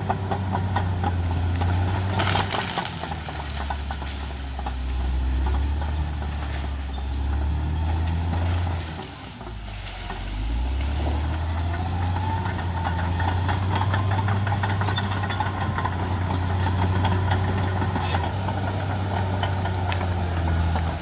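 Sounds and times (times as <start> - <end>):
bulldozer diesel engine droning: 0.0 - 21.0
engine whine: 0.0 - 21.0.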